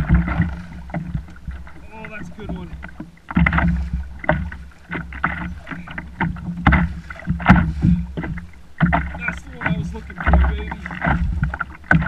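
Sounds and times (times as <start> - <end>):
wind rumble on microphone: 0.0 - 2.7, 3.4 - 12.0
water slapping kayak hull: 0.0 - 12.0.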